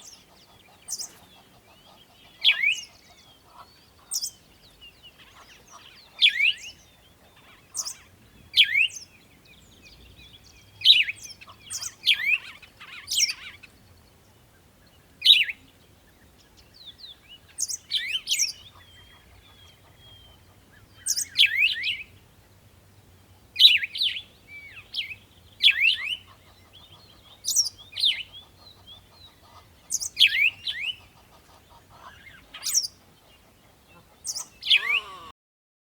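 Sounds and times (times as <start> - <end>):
bird chirping: 0.0 - 35.3.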